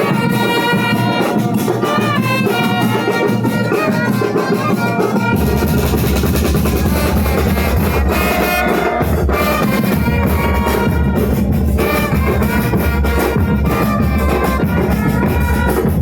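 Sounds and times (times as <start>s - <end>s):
brass band playing: 0.0s - 16.0s
heavy bass drums: 0.0s - 16.0s.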